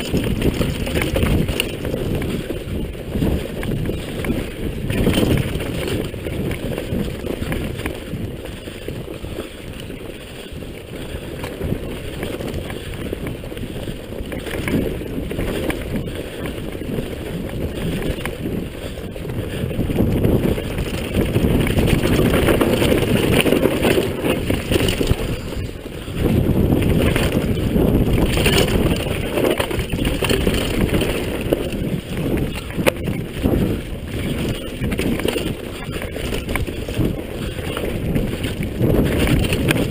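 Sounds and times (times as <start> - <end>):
bike rattling over bumps: 0.0 - 39.9
bike tyres rumbling over dirt: 0.0 - 39.9
wind buffeting microphone: 0.0 - 39.9.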